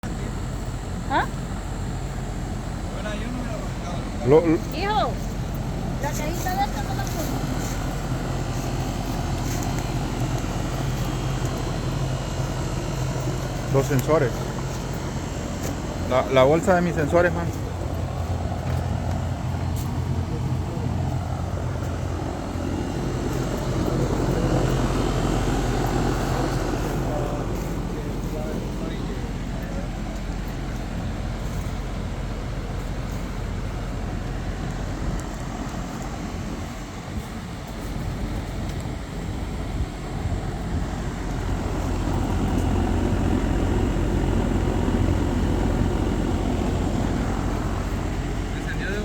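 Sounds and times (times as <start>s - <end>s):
heat pump humming: 0.0s - 49.0s.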